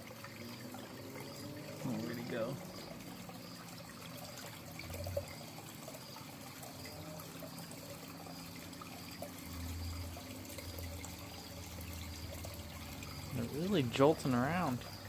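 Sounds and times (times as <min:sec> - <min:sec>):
water trickling into a pond: 0:00.0 - 0:15.0.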